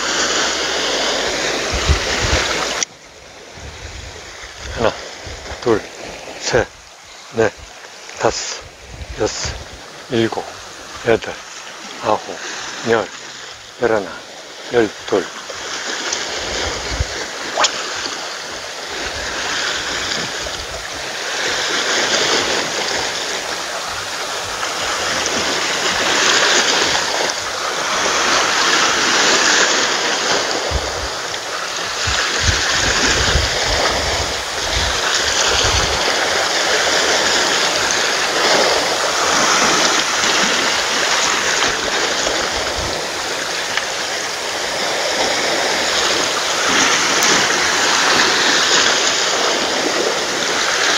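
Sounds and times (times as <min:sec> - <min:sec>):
waves breaking on rocky shore: 0:00.0 - 0:50.9.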